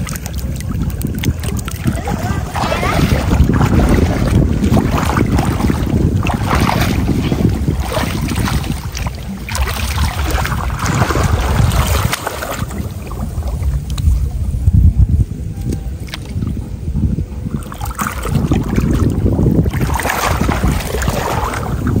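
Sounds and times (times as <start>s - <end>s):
water splashing and sloshing: 0.0s - 22.0s
wind rumbling on microphone: 0.0s - 22.0s.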